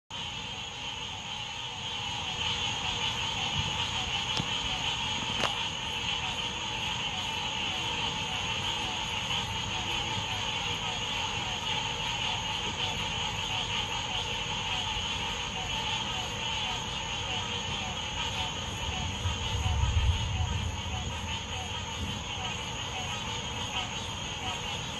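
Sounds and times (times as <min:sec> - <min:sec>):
insect chorus: 0:00.1 - 0:24.9.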